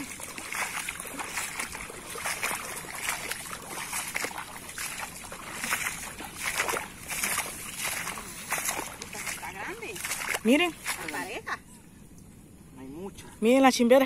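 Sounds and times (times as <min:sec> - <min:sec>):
bare feet wading through water: 0:00.0 - 0:11.6.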